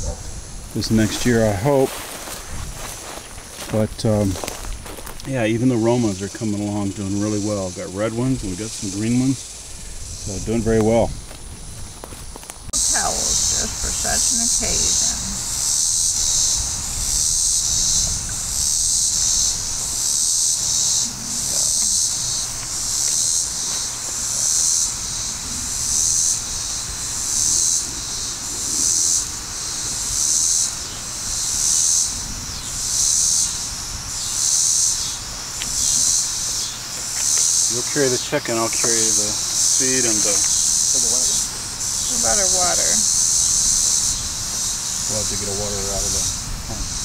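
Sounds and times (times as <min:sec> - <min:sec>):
insects buzzing: 0:00.0 - 0:47.0.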